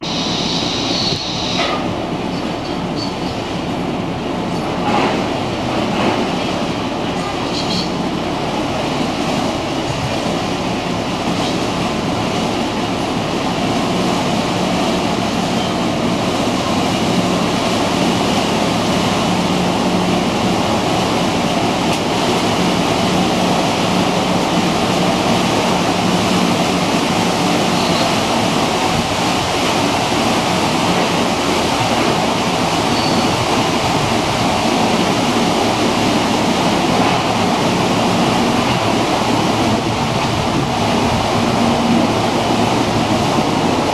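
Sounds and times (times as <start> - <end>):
ship engine droning: 0.0 - 43.9
water rushing: 0.0 - 43.9.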